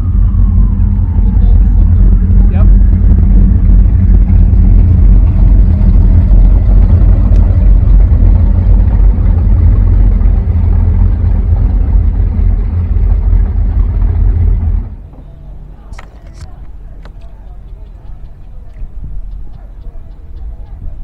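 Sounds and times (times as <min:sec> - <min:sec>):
motorboat engine rumbling: 0:00.0 - 0:21.0.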